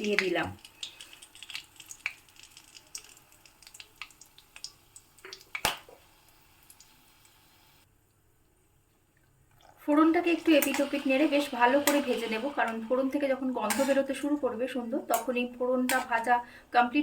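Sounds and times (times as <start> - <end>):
spices crackling in hot oil: 0.0 - 7.9, 9.7 - 16.3.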